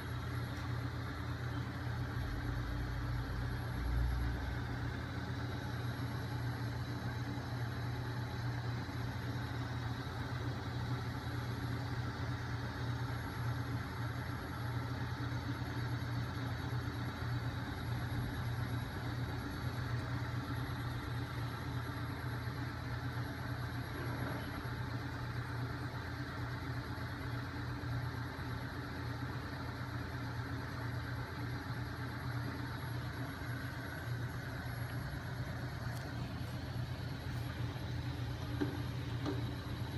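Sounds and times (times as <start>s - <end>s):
flywheel machine humming: 0.0s - 39.9s.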